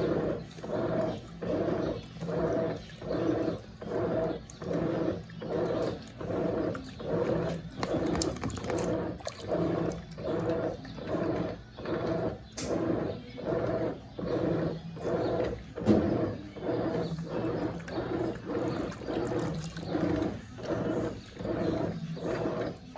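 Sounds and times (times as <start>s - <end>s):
washing machine motor pulsing hum: 0.0s - 22.9s.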